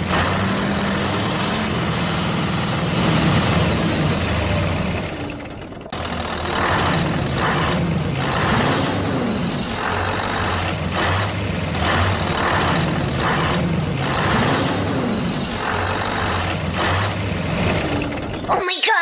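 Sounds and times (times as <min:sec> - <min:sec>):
heavy truck engine chugging: 0:00.0 - 0:18.6.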